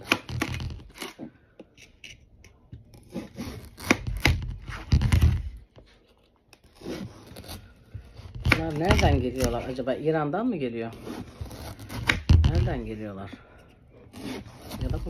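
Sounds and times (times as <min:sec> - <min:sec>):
knife cutting watermelon rind: 0:00.0 - 0:09.8, 0:10.9 - 0:12.8, 0:13.9 - 0:15.0.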